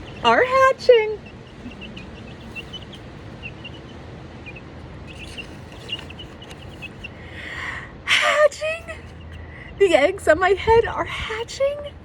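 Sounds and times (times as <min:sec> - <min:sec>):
baby chicks peeping: 0:00.0 - 0:07.5, 0:08.8 - 0:12.0.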